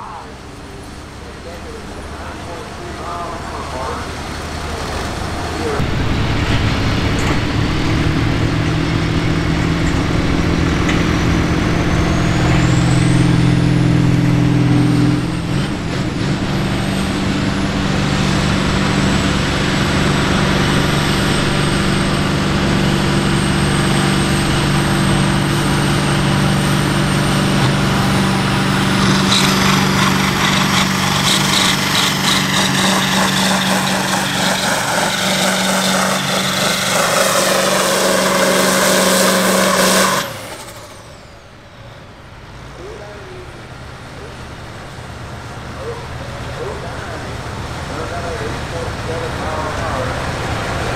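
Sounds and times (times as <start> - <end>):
diesel tractor engine at high revs: 0.0 - 50.9.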